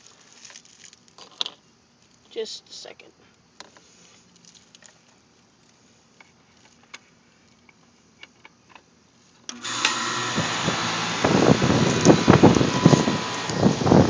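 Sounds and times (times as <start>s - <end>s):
air conditioner unit humming: 0.0s - 3.6s, 4.2s - 14.0s.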